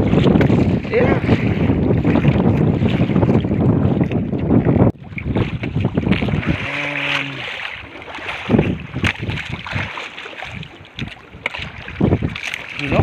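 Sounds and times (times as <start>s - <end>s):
water splashing against boat: 0.0s - 13.0s
wind buffeting microphone: 0.0s - 13.0s.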